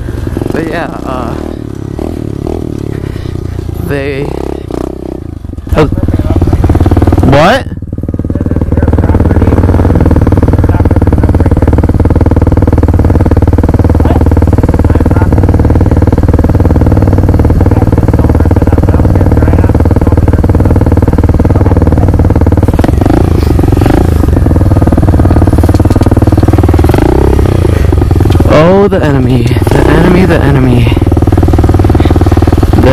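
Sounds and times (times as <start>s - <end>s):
motorbike engine running: 0.0s - 32.9s.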